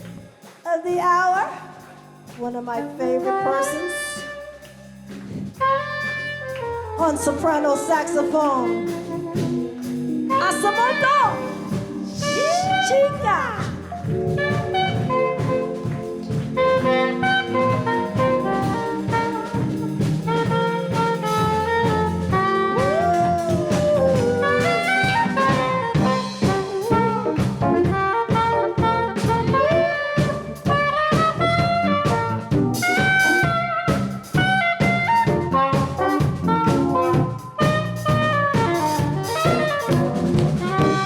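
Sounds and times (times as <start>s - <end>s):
jazz band playing: 0.0s - 41.0s
soprano saxophone melody: 2.4s - 41.0s.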